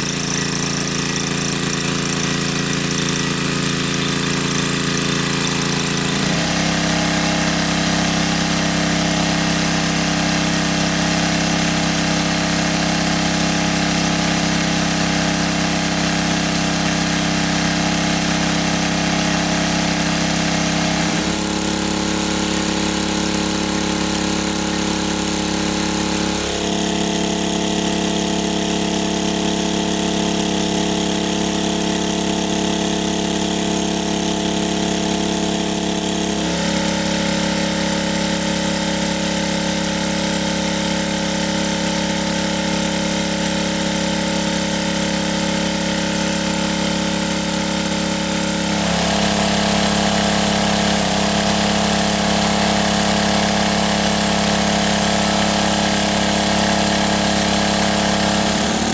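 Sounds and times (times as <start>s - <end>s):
small engine running: 0.0s - 58.9s.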